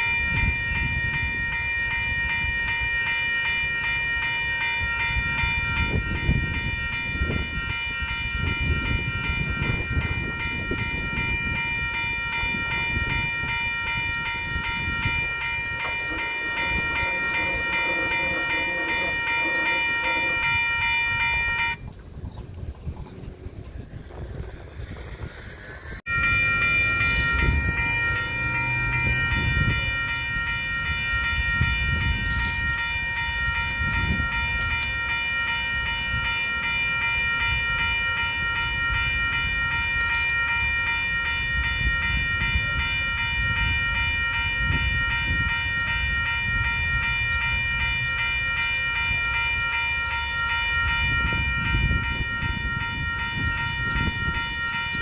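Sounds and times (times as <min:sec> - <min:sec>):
train high-pitched multi-tone sound: 0:00.0 - 0:55.0.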